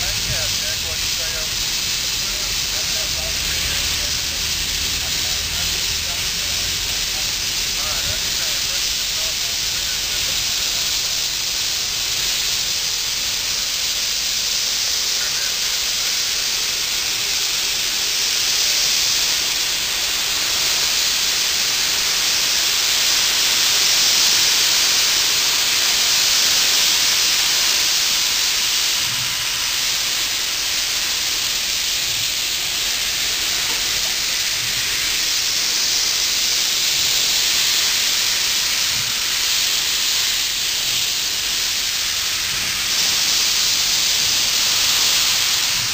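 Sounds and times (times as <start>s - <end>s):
steam locomotive hissing steam: 0.0s - 45.9s.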